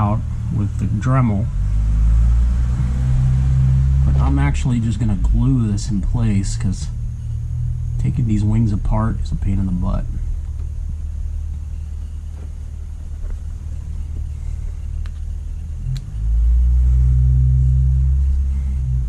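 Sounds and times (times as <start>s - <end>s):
deep hum: 0.0s - 19.0s
low steady rumble: 0.0s - 19.0s.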